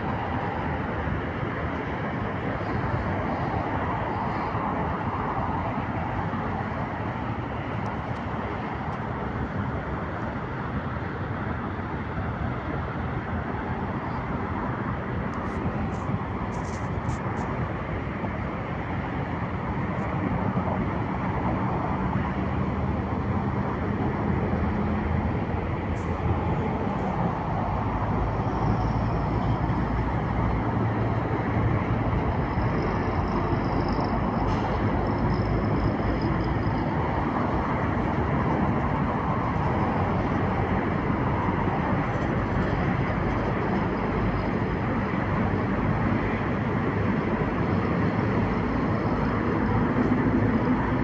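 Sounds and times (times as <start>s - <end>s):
road traffic noise: 0.0s - 51.0s.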